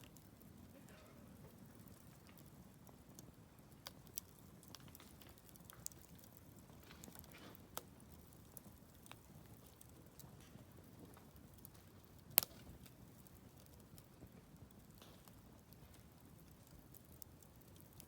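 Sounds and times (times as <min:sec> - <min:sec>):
bonfire crackling: 0:00.0 - 0:18.0
faint rustle of burning: 0:00.0 - 0:18.0
fire popping: 0:00.0 - 0:18.0.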